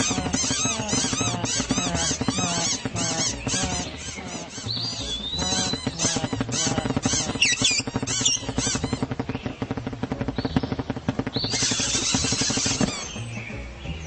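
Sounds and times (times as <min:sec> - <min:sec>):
cartoon birds squawking: 0:00.0 - 0:09.5, 0:11.3 - 0:13.2.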